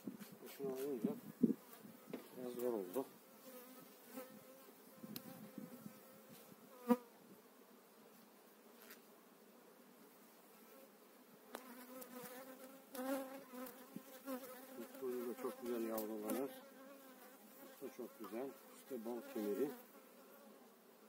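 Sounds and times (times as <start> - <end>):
honeybees buzzing: 0.1 - 9.4, 10.8 - 21.0.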